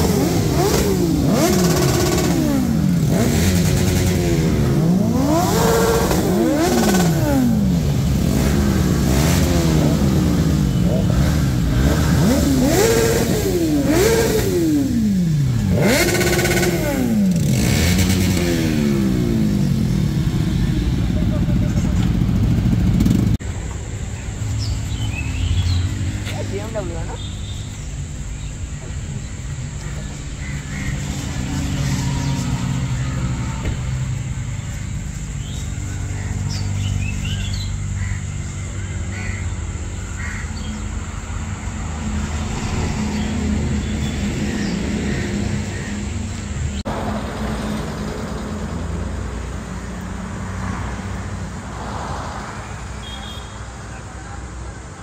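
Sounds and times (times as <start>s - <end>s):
birds calling: 0.0s - 46.8s
motorcycle engines running: 0.0s - 55.0s.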